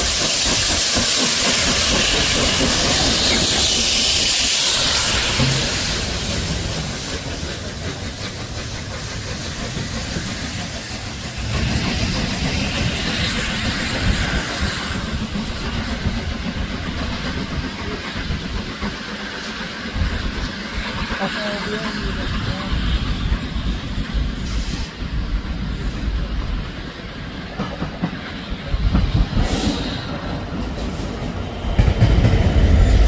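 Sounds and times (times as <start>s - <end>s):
steam locomotive hiss: 0.0s - 33.0s.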